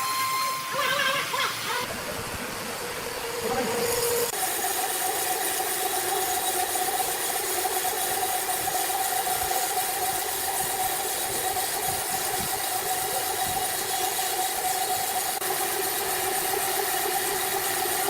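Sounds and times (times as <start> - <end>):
sawmill machinery humming: 0.0 - 18.0.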